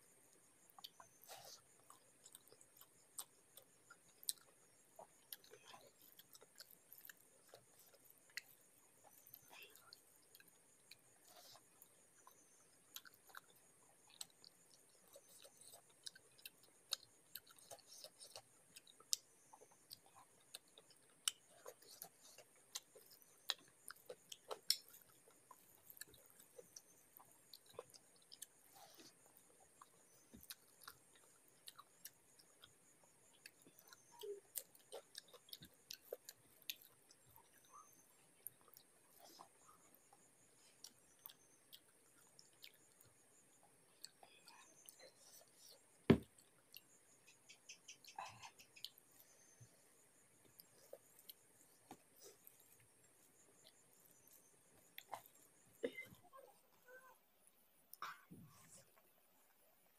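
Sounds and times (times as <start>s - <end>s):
soft chewing with mouth clicks: 0.0s - 59.9s.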